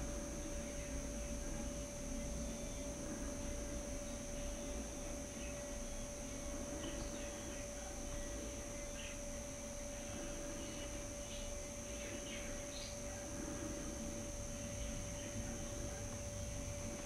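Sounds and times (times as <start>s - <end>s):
electronic hum with high whine: 0.0s - 17.0s.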